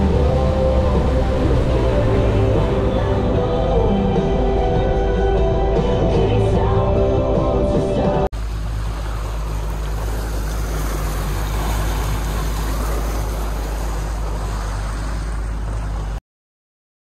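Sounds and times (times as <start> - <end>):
outboard motors running: 0.0 - 16.2
water rushing past hull: 0.0 - 16.2.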